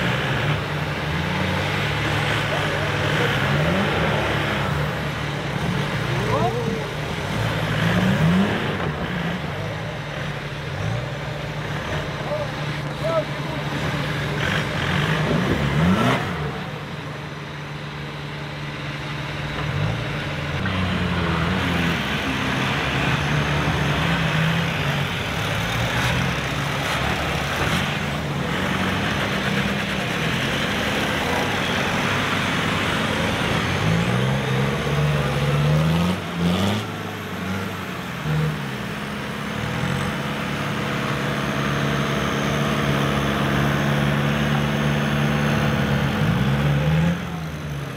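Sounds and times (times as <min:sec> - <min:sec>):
off-road vehicle engines revving: 0:00.0 - 0:47.9.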